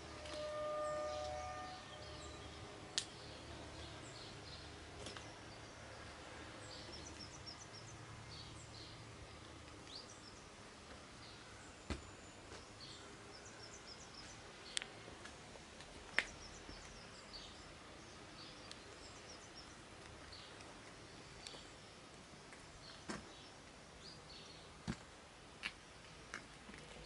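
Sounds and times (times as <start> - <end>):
small birds chirping: 1.1 - 24.8.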